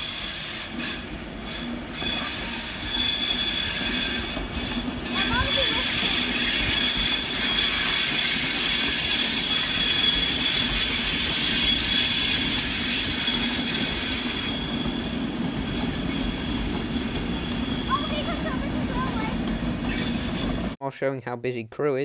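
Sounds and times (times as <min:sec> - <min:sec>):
high-pitched squeal: 0:00.0 - 0:20.7
electric train rolling past: 0:00.0 - 0:20.8.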